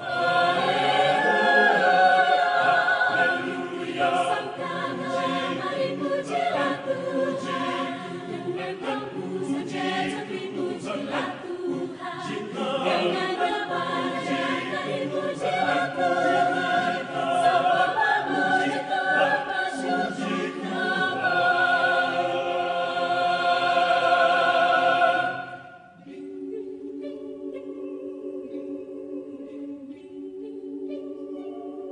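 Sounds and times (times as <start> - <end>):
choir singing in harmony: 0.0 - 31.9.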